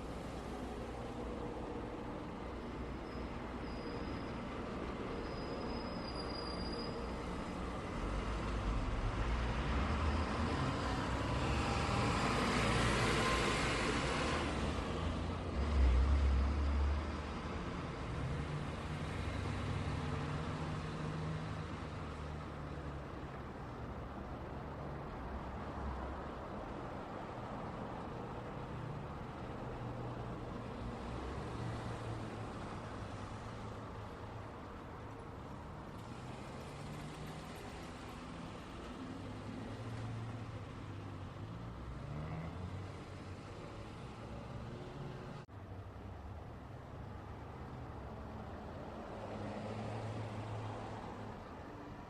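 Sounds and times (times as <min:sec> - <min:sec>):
road traffic hum: 0:00.0 - 0:52.0.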